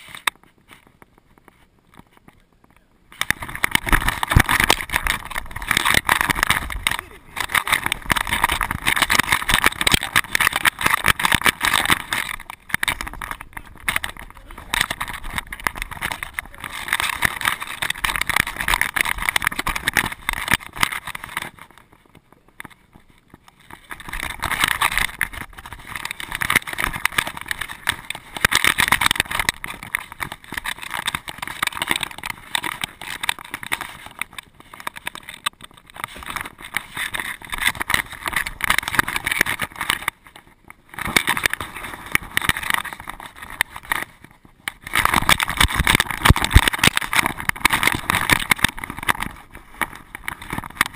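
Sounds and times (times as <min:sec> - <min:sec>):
camera scraping against fur: 0:00.0 - 0:02.4, 0:03.1 - 0:50.9
camera rattling in mount: 0:03.1 - 0:50.9.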